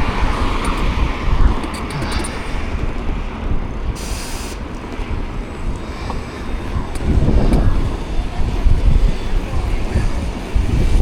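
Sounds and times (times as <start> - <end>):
road and traffic rumble: 0.0 - 11.0
wind buffeting microphone: 0.0 - 11.0.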